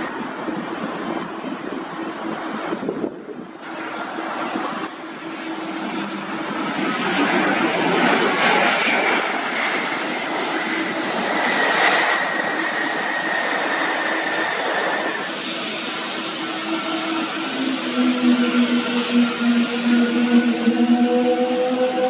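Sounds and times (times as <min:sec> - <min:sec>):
airliner engine rush: 0:00.0 - 0:22.0
faint high jet whine: 0:00.0 - 0:22.0.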